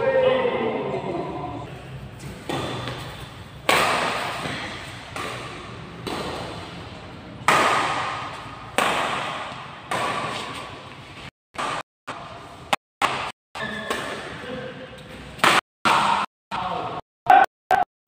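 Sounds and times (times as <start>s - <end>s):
rackets hitting shuttlecock in hall: 2.1s - 17.0s.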